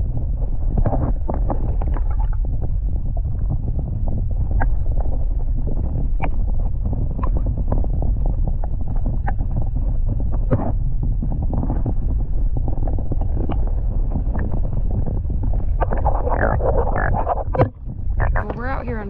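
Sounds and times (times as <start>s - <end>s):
underwater water rumble: 0.0s - 19.0s
small clicks and ticks: 0.7s - 18.5s.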